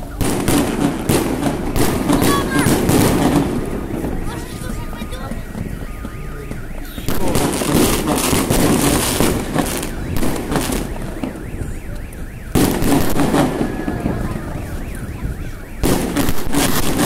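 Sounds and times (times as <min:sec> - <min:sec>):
car alarm warbling: 0:00.0 - 0:17.0
fireworks bursting and crackling: 0:00.0 - 0:17.0
sharp firework bang: 0:00.2 - 0:06.1, 0:06.8 - 0:11.8, 0:12.5 - 0:17.0.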